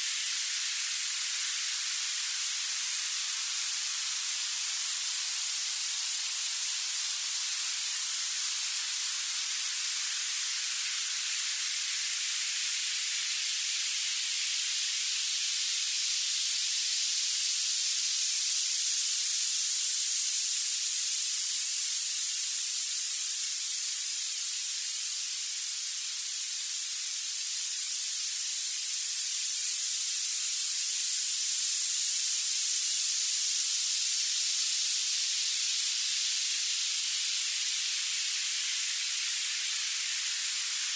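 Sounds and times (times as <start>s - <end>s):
bright synthetic hiss: 0.0s - 40.9s.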